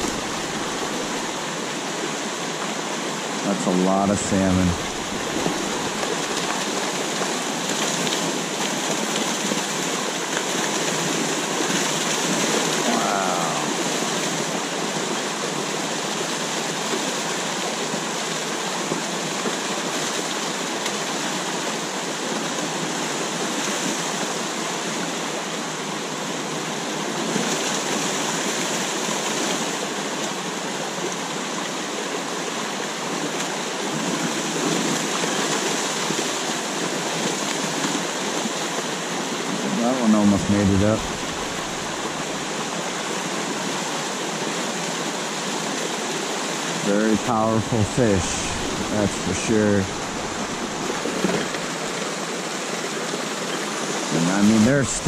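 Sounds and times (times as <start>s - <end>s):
river water rushing over weir: 0.0s - 55.0s.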